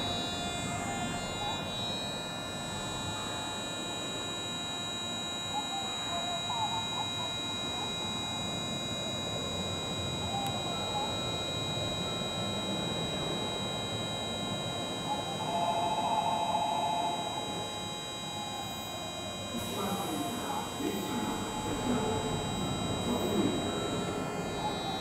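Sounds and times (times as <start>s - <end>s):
train electrical whine: 0.0s - 25.0s.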